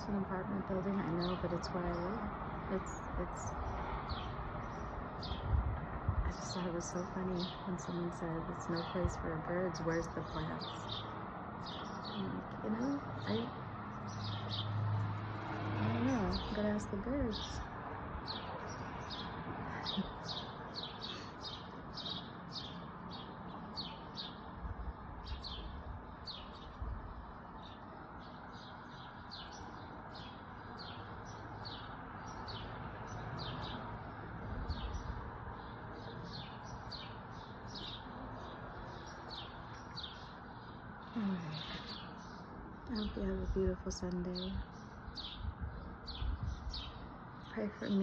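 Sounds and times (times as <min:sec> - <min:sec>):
small birds chirping: 0:00.0 - 0:05.6, 0:06.2 - 0:48.0.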